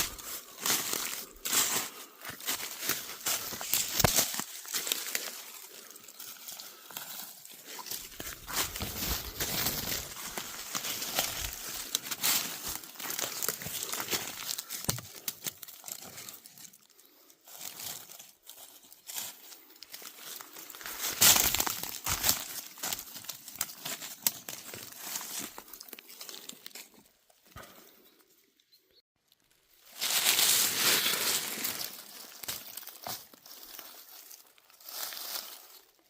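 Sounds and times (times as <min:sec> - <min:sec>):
dry leaves crackling and rustling: 0:00.0 - 0:27.0, 0:29.3 - 0:36.0.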